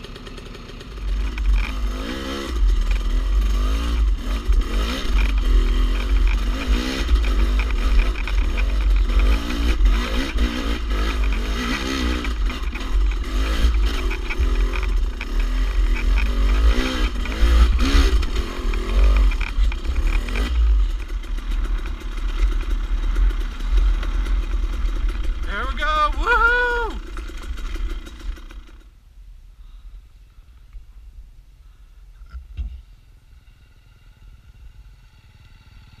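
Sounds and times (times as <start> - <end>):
dirt bike engine revving: 0.0 - 28.9.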